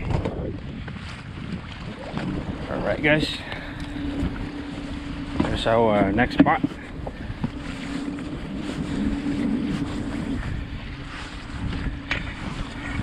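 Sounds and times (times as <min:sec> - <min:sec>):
small boat motor running: 0:00.0 - 0:13.0
wind rumbling on microphone: 0:00.0 - 0:13.0.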